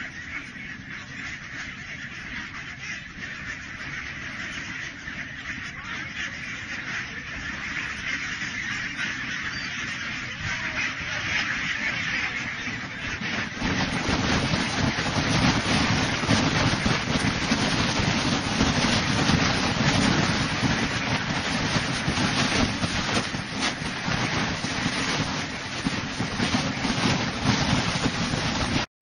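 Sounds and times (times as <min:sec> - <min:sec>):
flock of ducks quacking: 0:00.0 - 0:28.9
wind buffeting microphone: 0:00.0 - 0:28.9.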